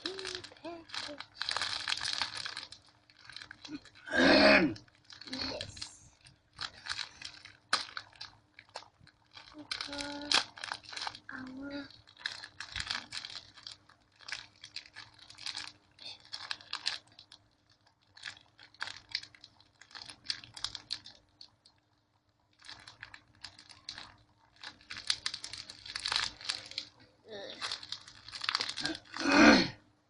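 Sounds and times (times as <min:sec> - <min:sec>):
packaging crinkling: 0:00.0 - 0:04.1, 0:04.7 - 0:29.4.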